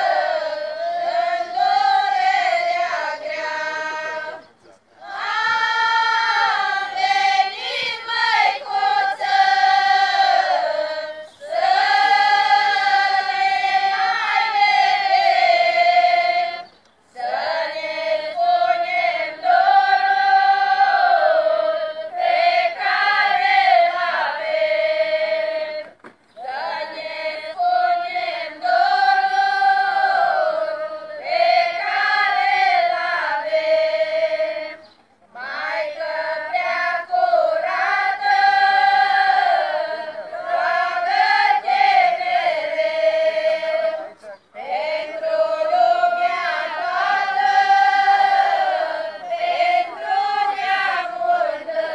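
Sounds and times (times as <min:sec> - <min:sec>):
women's choir singing unaccompanied: 0:00.0 - 0:51.9.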